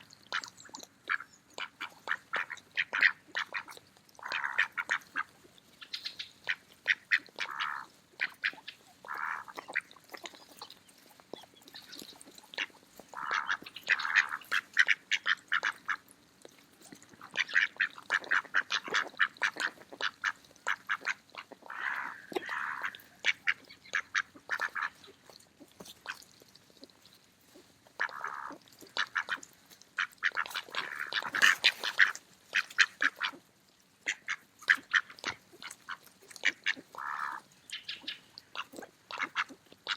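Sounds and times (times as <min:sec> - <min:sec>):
ducks quacking: 0:00.0 - 0:16.1, 0:16.9 - 0:26.2, 0:27.9 - 0:33.4, 0:34.0 - 0:39.9.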